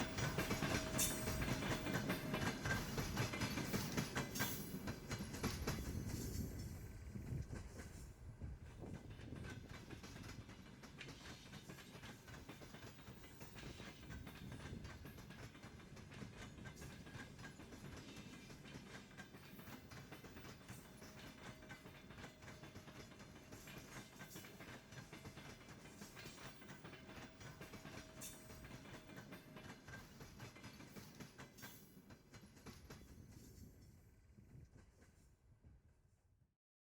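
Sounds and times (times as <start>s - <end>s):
train wheels clicking on rails: 0.0s - 35.5s.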